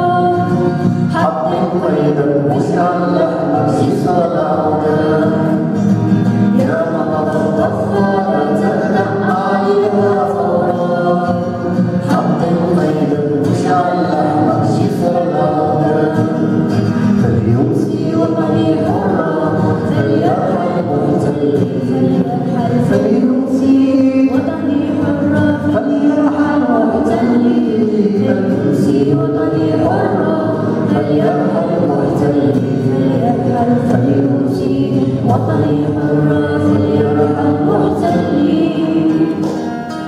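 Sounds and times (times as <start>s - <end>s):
acoustic guitar strummed and plucked: 0.0s - 40.0s
girl singing into a microphone: 0.0s - 40.0s.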